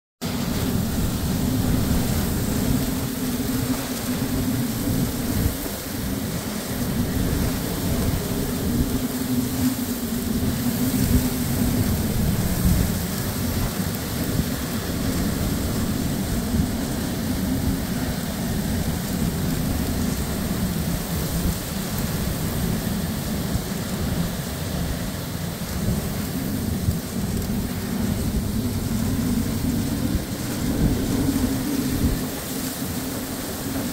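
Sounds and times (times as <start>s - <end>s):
gusting wind rumble: 0.2s - 33.9s
heavy rain pouring: 0.2s - 33.9s.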